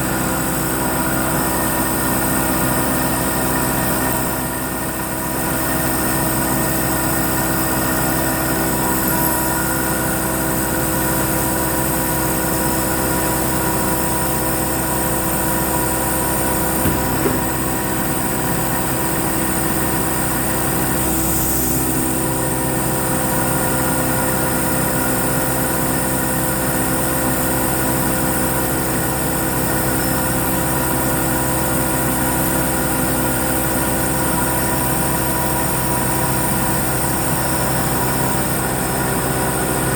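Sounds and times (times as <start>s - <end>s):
milling machine whining hum: 0.0s - 39.9s.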